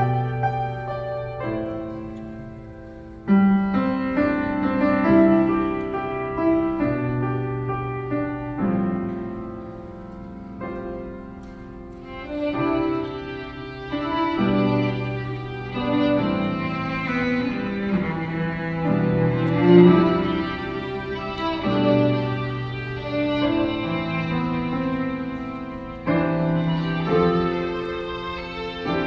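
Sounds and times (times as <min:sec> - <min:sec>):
violin and cello duet: 0:00.0 - 0:07.2, 0:11.4 - 0:29.0
piano accompaniment: 0:00.0 - 0:29.0.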